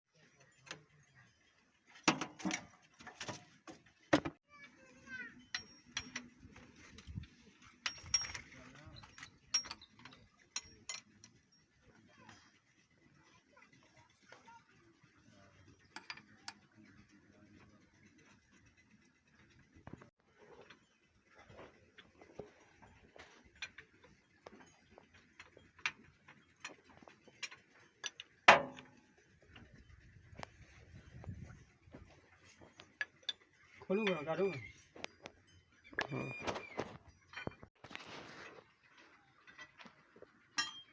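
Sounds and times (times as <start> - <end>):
metal tools clicking and tapping: 1.9 - 12.6, 15.5 - 38.0, 39.5 - 40.9.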